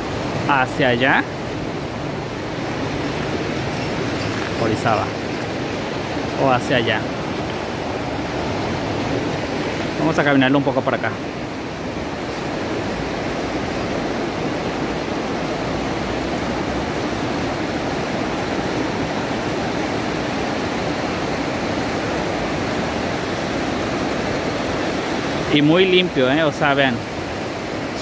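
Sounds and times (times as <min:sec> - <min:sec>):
rushing river water: 0:00.0 - 0:28.0.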